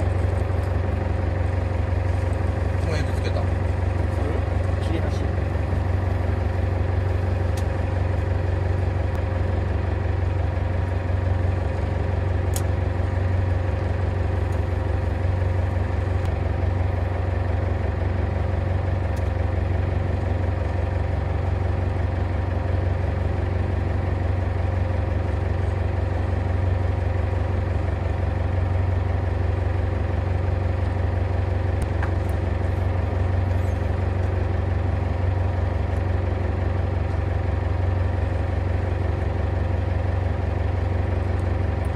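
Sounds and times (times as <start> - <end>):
boat engine humming: 0.0 - 41.9.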